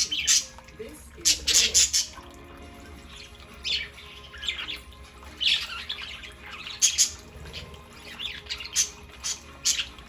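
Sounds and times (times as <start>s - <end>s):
budgerigars chirping and squawking: 0.0s - 10.0s.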